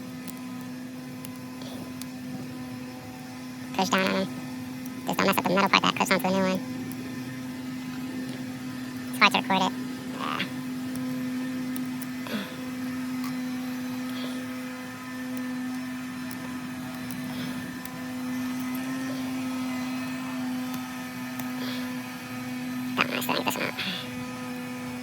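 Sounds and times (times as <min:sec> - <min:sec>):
steady motor hum: 0:00.0 - 0:25.0.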